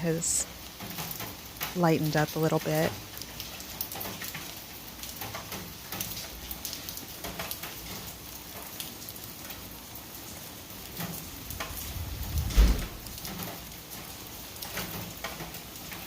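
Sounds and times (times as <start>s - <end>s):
light rain falling: 0.0s - 16.0s
raindrops ticking on surfaces: 0.0s - 16.0s.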